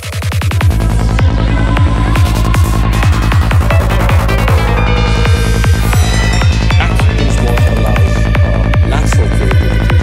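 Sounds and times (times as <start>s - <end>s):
electronic trance music: 0.0s - 10.0s
kick drum: 0.0s - 10.0s.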